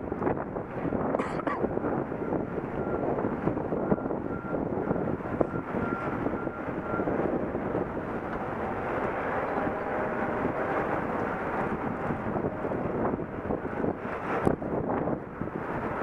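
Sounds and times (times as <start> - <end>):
high wind buffeting microphone: 0.0 - 16.0.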